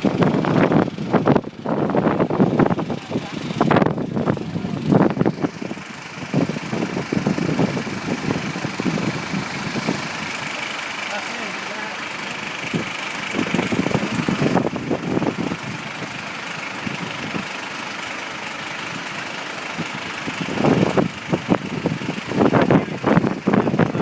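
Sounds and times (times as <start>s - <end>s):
low rumbles: 0.0s - 24.0s
river rushing: 2.0s - 24.0s.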